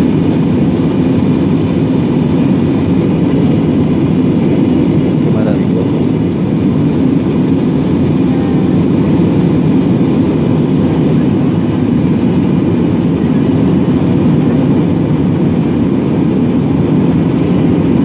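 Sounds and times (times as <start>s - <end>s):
jet airliner cabin rumble: 0.0s - 18.0s.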